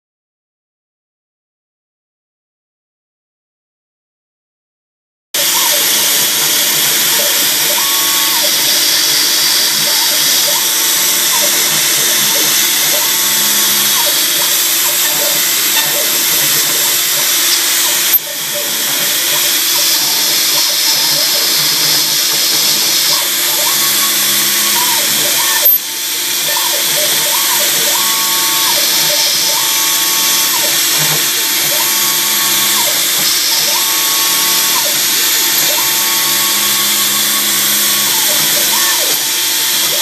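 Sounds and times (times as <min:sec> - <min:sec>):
cnc machine cutting metal: 0:05.4 - 0:40.0.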